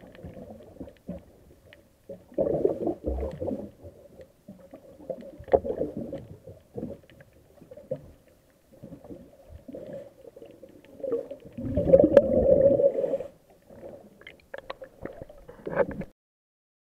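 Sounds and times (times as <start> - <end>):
underwater air bubbling: 0.0 - 16.1.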